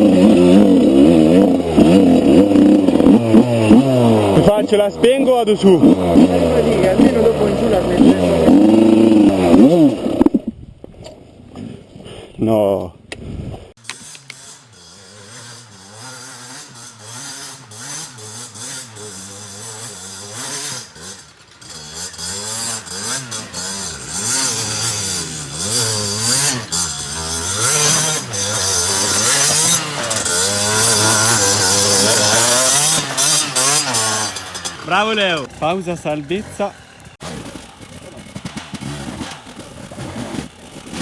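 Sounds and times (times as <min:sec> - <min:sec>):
motorcycle engine revving: 0:00.0 - 0:10.6, 0:13.8 - 0:41.0.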